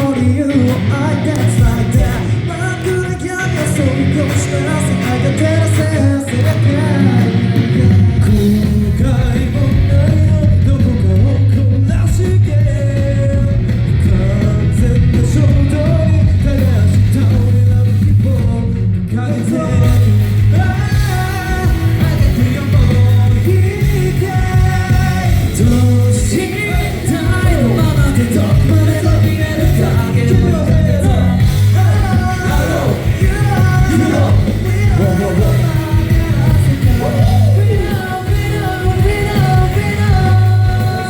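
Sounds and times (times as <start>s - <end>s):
amplified pop music: 0.0s - 41.0s
heavy bass pulse: 0.0s - 41.0s
male vocal group singing: 0.0s - 41.0s.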